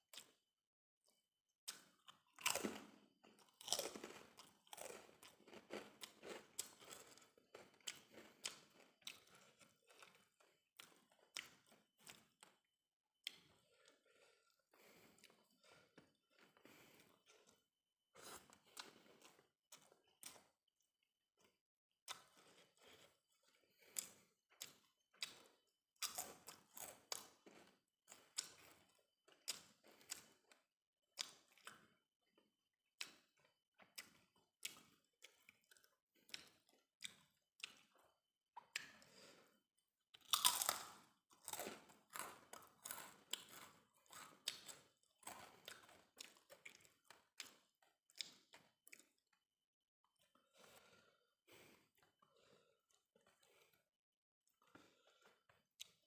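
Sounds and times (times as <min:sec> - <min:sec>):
person chewing crunchy food: 0:00.1 - 0:00.4, 0:01.1 - 0:12.6, 0:13.2 - 0:20.6, 0:21.4 - 0:32.0, 0:33.0 - 0:39.6, 0:40.2 - 0:49.4, 0:50.2 - 0:53.9, 0:54.5 - 0:56.0.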